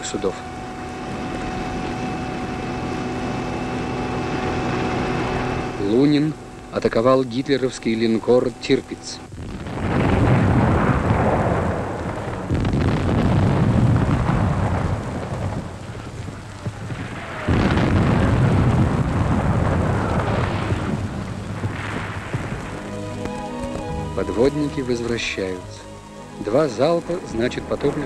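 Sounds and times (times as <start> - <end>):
heavy rumbling blasts: 0.0 - 28.0.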